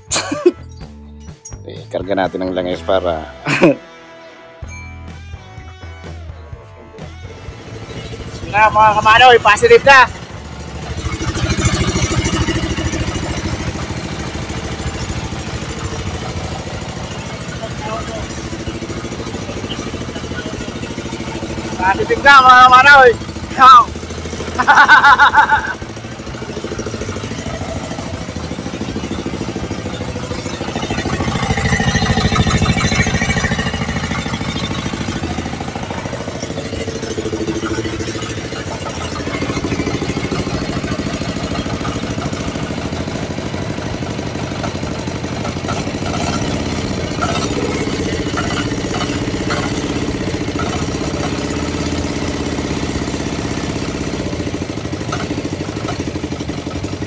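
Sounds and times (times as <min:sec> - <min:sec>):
small diesel engine running: 0:00.0 - 0:03.8, 0:04.7 - 0:57.0.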